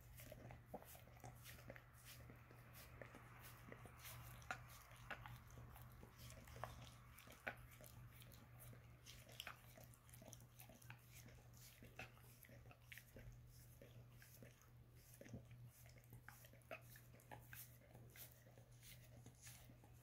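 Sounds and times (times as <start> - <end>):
dog licking wetly: 0.0 - 20.0.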